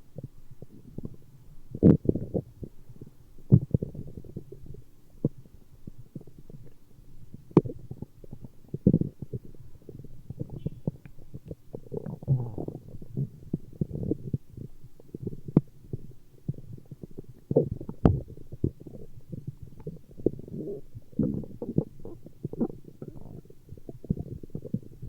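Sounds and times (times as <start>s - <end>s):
stomach growling: 0.2s - 25.0s.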